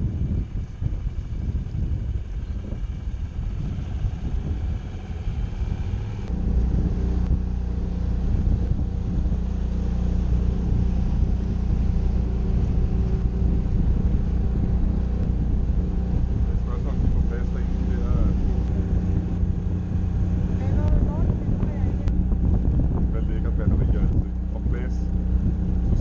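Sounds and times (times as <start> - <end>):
boat engine humming: 0.0 - 26.0
wind noise on microphone: 0.0 - 26.0.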